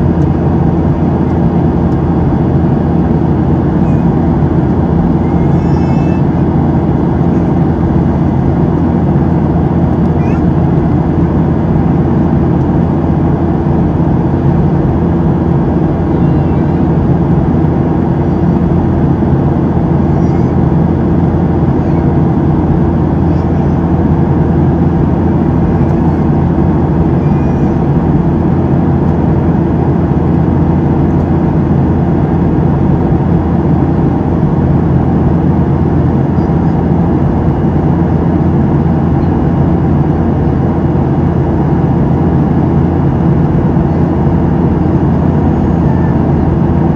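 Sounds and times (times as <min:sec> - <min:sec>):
airplane cabin drone: 0:00.0 - 0:46.9.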